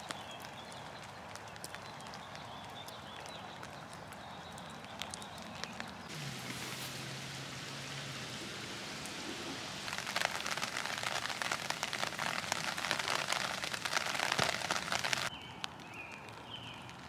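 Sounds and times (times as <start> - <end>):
rain splashing on wet pavement: 0.0 - 17.0.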